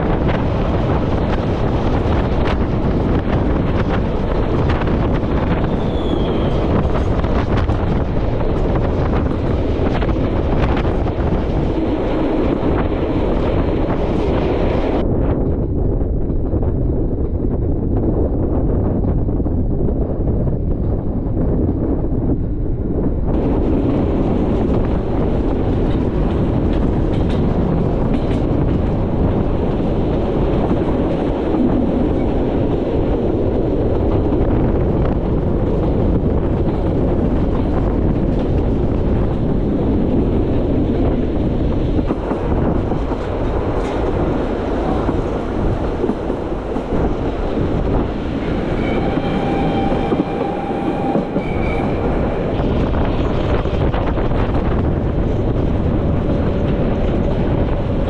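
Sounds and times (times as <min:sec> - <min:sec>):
train rumbling with wheel clatter: 0:00.0 - 0:58.0.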